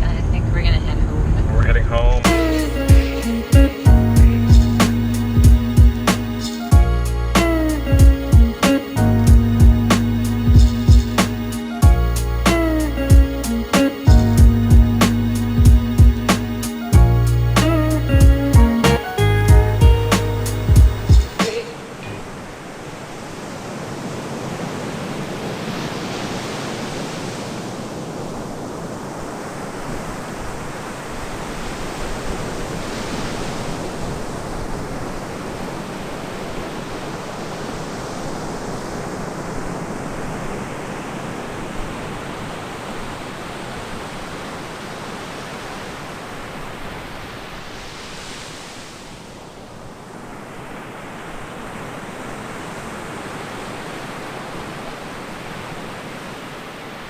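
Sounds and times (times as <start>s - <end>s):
ocean surf on a beach: 1.6s - 6.8s, 7.4s - 11.9s, 12.5s - 17.0s, 19.8s - 57.0s
waves breaking: 1.6s - 17.0s, 17.6s - 57.0s.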